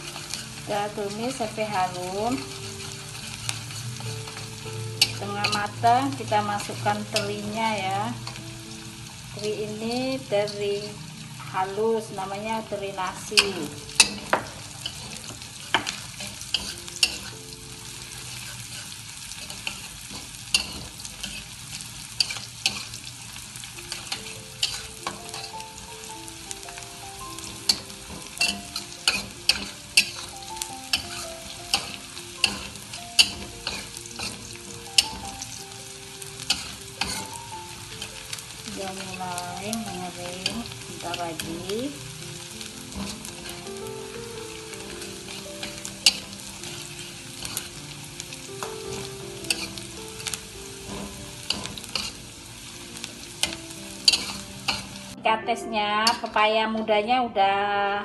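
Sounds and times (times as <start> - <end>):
food sizzling in hot oil: 0.0 - 55.3, 55.9 - 56.4.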